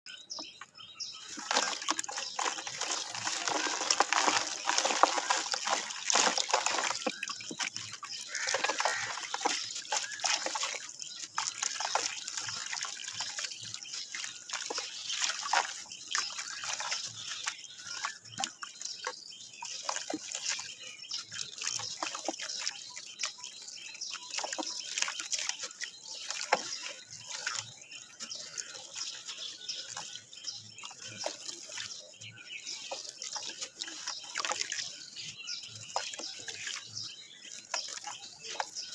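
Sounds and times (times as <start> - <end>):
dry dirt crumbling and crackling: 0.4 - 38.9
crumbs splashing into water: 0.6 - 38.9.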